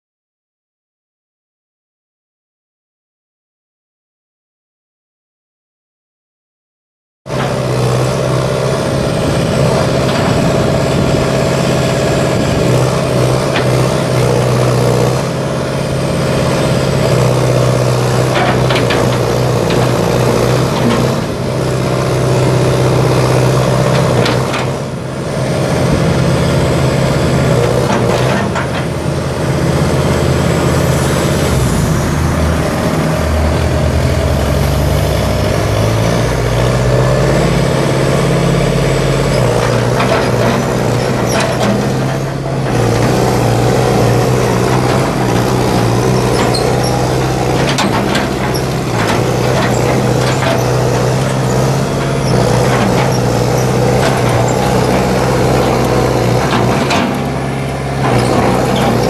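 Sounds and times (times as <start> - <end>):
diesel excavator engine running: 7.3 - 59.0.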